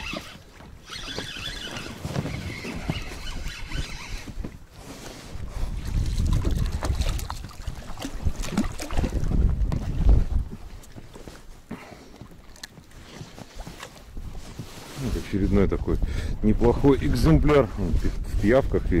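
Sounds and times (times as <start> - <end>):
wind rumbling on microphone: 0.8 - 11.6, 13.0 - 19.0.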